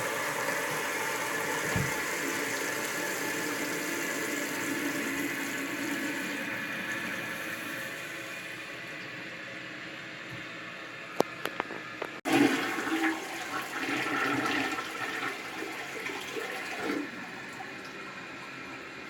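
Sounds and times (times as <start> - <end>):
toilet tank refilling hiss: 0.0 - 8.8, 12.3 - 19.0
toilet flushing: 0.0 - 10.2, 11.2 - 19.0.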